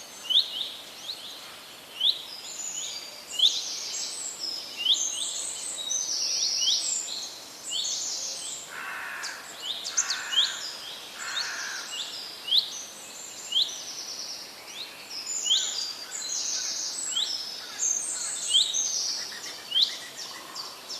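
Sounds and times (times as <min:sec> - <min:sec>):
faint steady hiss: 0:00.0 - 0:20.9
forest birds chirping: 0:00.0 - 0:20.9.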